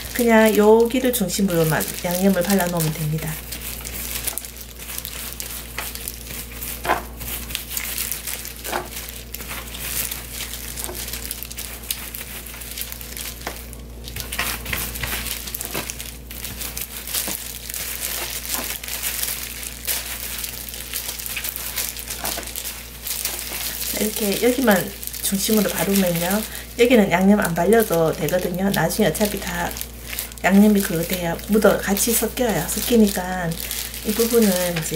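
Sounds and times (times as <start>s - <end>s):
plastic gloves and sheet crinkling: 0.0s - 34.9s.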